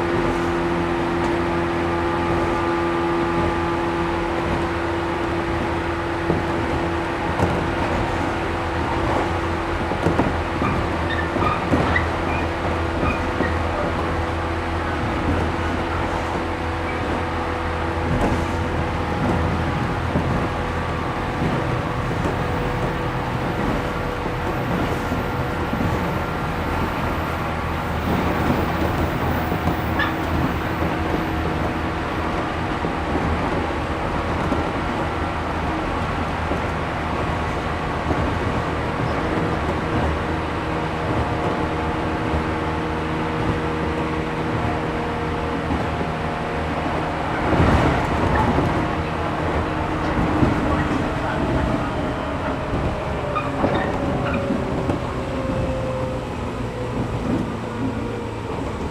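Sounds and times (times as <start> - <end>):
train wheel and track noise: 0.0 - 58.9.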